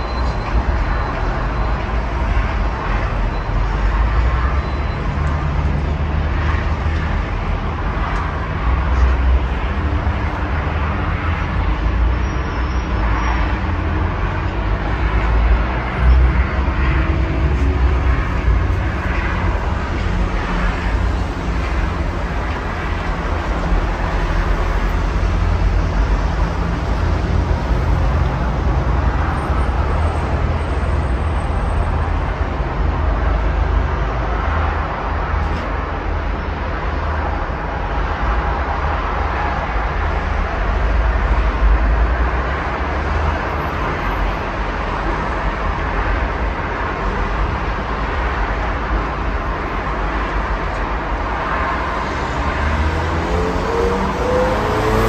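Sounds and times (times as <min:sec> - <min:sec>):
distant road traffic rumble: 0:00.0 - 0:55.0.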